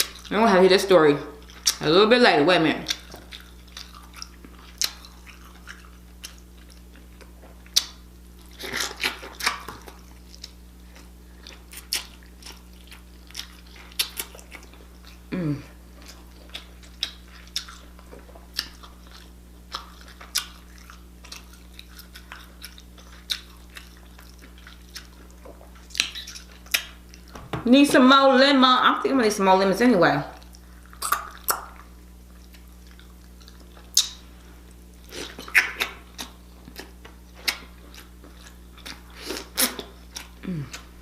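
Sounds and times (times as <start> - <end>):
steady low hum: 0.0 - 41.0
biting and chewing: 2.8 - 27.4, 30.4 - 41.0.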